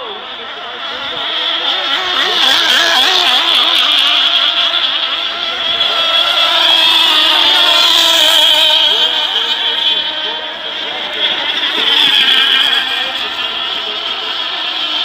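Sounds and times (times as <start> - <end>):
model boat engines revving: 0.0 - 15.0.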